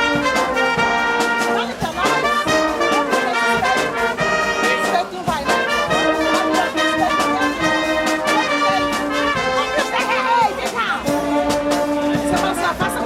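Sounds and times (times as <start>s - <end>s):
brass orchestra playing: 0.0s - 13.0s
steady percussion beat: 0.0s - 13.0s.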